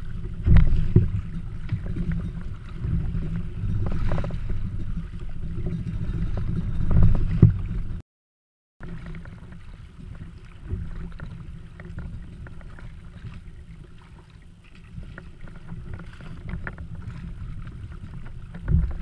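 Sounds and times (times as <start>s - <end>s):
water splashing around kayak: 0.0s - 8.0s, 8.8s - 19.0s
wind rumble on microphone: 0.0s - 8.0s, 8.8s - 19.0s.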